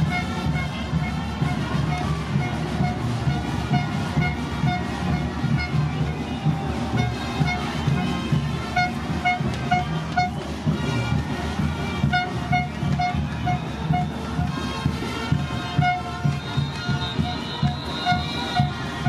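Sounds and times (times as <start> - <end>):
brass band playing dance music: 0.0 - 19.0
low bass beat: 0.0 - 19.0.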